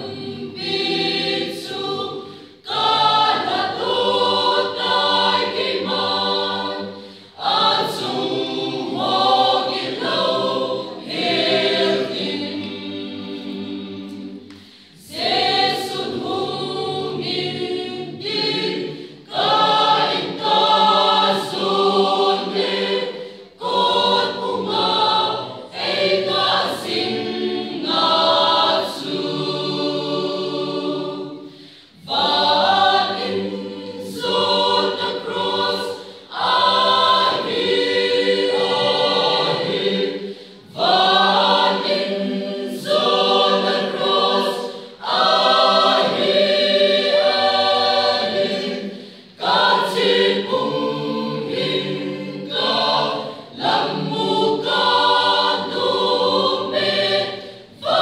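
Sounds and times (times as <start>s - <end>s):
mixed choir singing unaccompanied: 0.0s - 58.0s.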